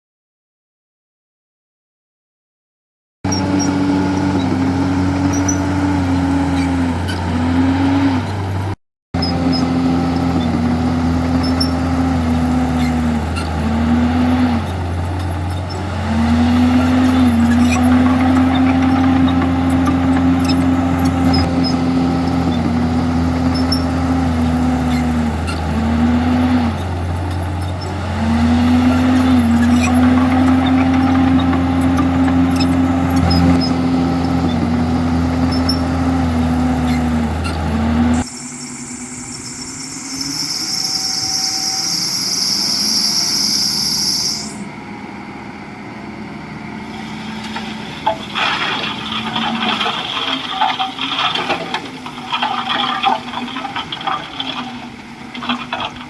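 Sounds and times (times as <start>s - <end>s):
bulldozer diesel engine under load: 3.3s - 56.0s.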